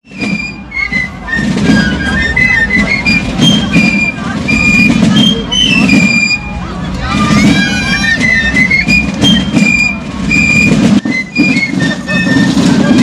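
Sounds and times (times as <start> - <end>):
high-pitched flute tune: 0.0 - 13.0
street noise din: 0.0 - 13.0.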